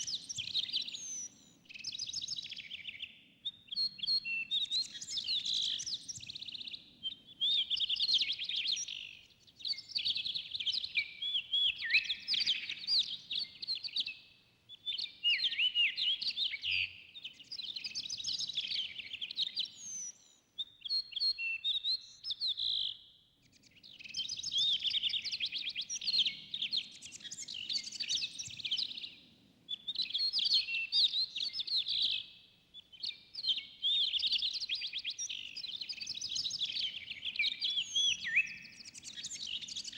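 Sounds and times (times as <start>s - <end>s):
songbirds chirping and warbling: 0.0s - 20.9s, 22.0s - 39.9s.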